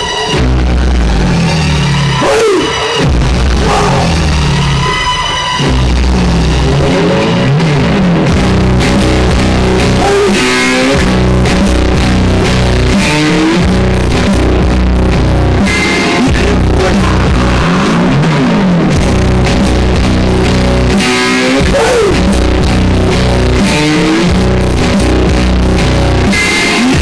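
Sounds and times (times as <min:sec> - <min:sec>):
loud rock music: 0:00.0 - 0:27.0.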